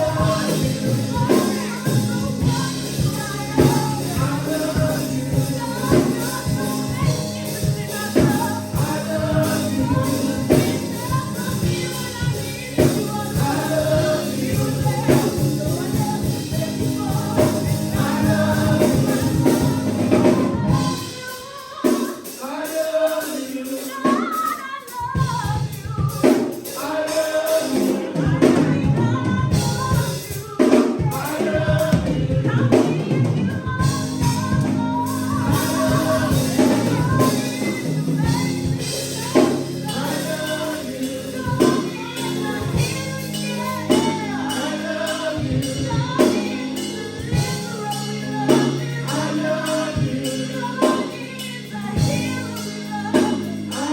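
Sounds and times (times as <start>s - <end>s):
band with drum kit: 0.0s - 53.9s
gospel singing: 0.0s - 53.9s.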